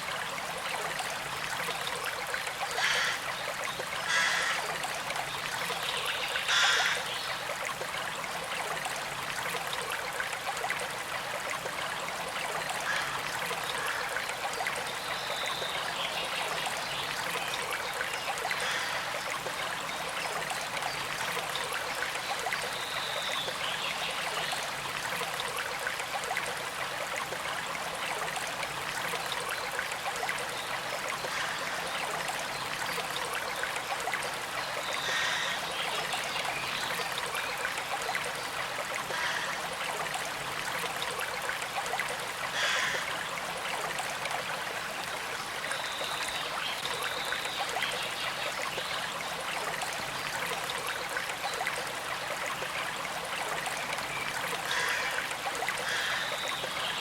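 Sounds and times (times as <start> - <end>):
creek trickling: 0.0 - 57.0.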